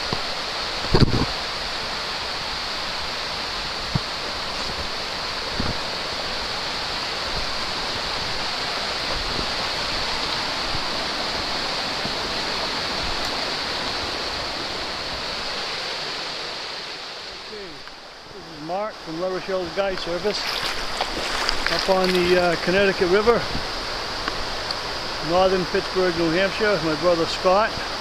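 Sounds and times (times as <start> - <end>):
white-water rapids rushing: 0.0 - 28.0.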